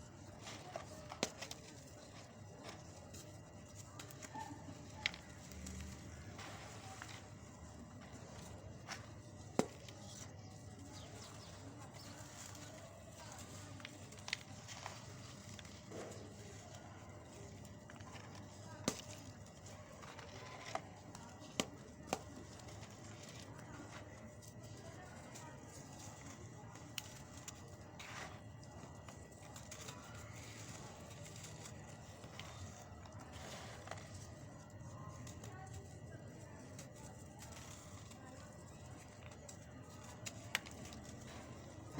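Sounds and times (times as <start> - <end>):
cement crunching and crumbling: 0.0 - 41.9.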